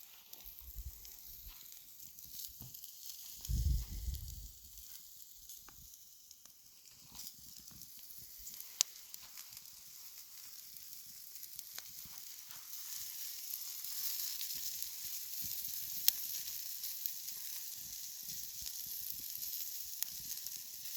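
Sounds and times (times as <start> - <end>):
steak sizzling over a wood fire: 0.0 - 20.9.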